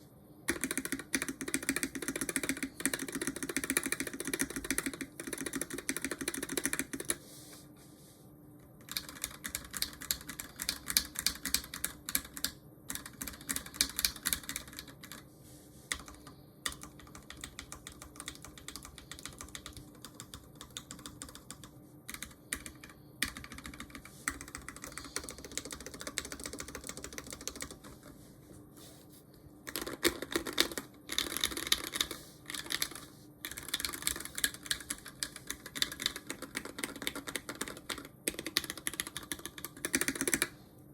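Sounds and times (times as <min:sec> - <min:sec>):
mechanical keyboard typing: 0:00.5 - 0:07.2, 0:08.8 - 0:15.2, 0:15.9 - 0:28.1, 0:29.7 - 0:40.5.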